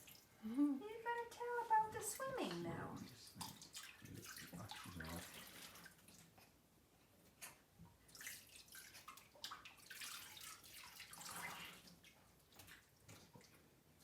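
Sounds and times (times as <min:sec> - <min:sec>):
water splashing in bathtub: 0:00.0 - 0:06.6, 0:07.2 - 0:14.0.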